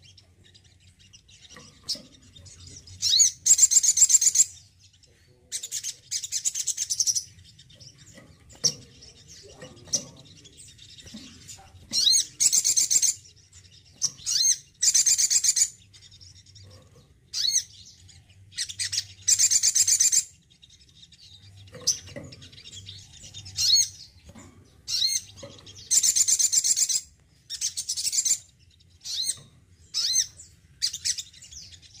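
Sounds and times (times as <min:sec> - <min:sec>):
bird singing rapid repeated notes: 0:00.0 - 0:32.0.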